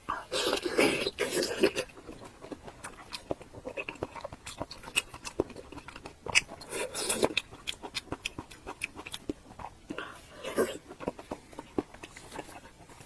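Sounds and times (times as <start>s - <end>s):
person chewing wetly: 0.0s - 13.0s.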